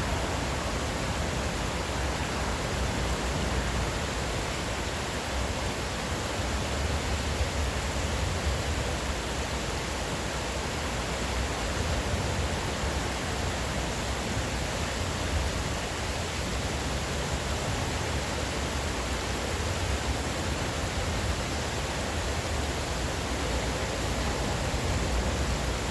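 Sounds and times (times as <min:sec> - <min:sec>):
stream water rushing: 0:00.0 - 0:25.9.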